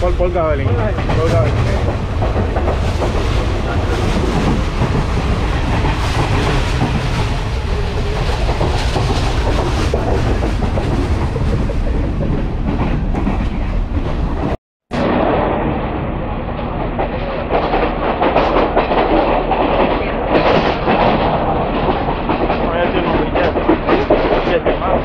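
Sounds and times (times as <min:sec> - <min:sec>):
train wheels on track: 0:00.0 - 0:14.6, 0:16.1 - 0:25.0.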